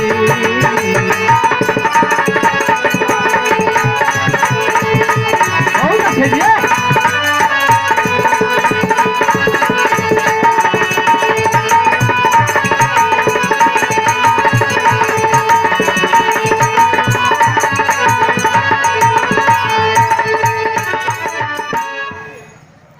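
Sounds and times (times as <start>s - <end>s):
harmonium held tones: 0.0s - 22.9s.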